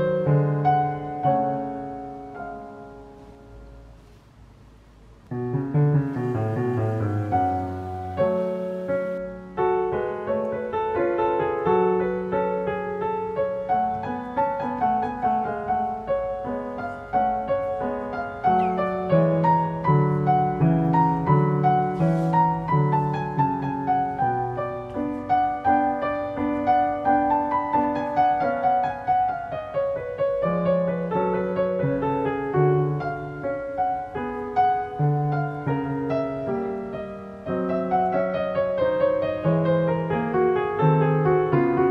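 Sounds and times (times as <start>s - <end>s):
piano music: 0.0s - 4.2s, 5.2s - 41.9s.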